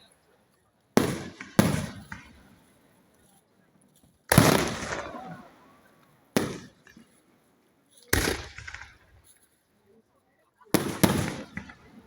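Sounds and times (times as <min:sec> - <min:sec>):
fireworks bursting: 0:00.9 - 0:09.6, 0:10.7 - 0:12.0.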